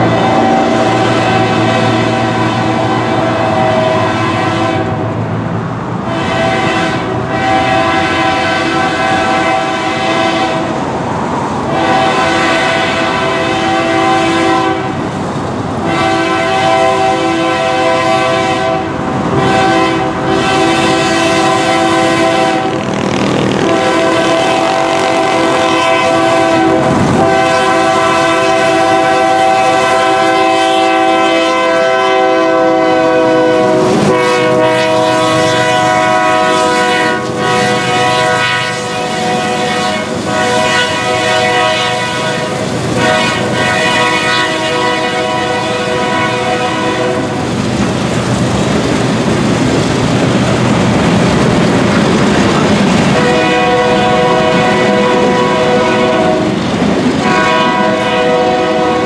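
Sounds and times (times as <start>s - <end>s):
locomotive air horn blasts: 0.0s - 5.2s, 6.0s - 10.8s, 11.7s - 15.0s, 15.8s - 47.4s, 53.1s - 56.6s, 57.2s - 59.0s
train rumble and clatter: 0.0s - 59.0s.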